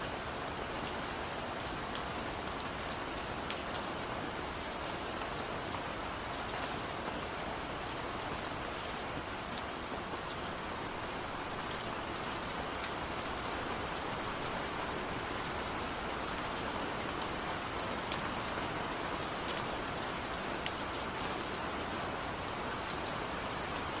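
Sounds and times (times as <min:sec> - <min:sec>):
steady rainfall: 0:00.0 - 0:24.0.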